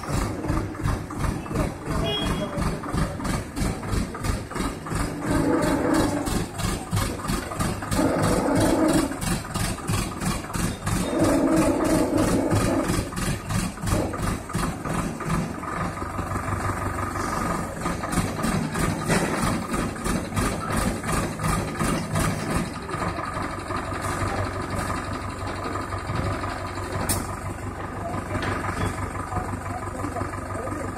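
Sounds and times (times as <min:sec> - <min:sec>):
crane diesel engine running: 0:00.0 - 0:30.9.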